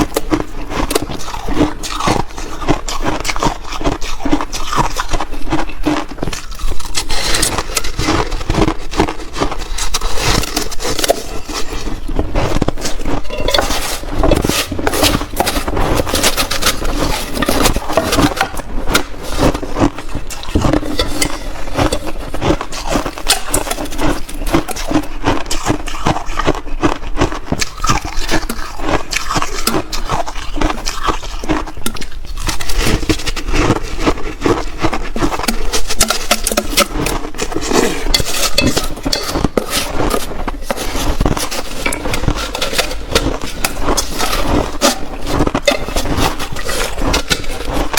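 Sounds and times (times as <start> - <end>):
chewing ice crunches: 0.0 - 47.9.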